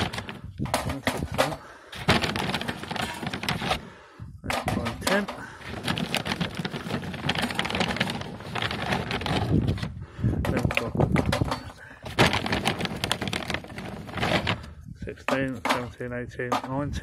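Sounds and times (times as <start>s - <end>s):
charcoal briquettes clattering: 0.0s - 16.8s.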